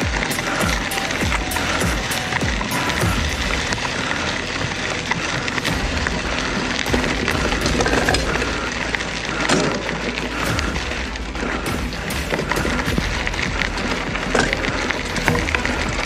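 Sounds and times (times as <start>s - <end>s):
bicycle rattling over rough trail: 0.0s - 16.0s.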